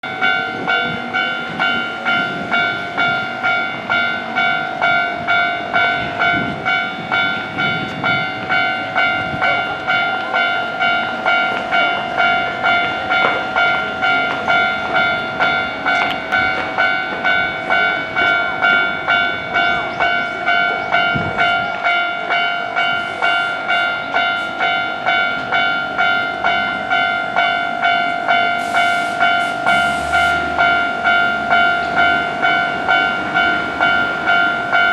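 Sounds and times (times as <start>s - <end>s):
level crossing alarm ringing: 0.0s - 34.9s.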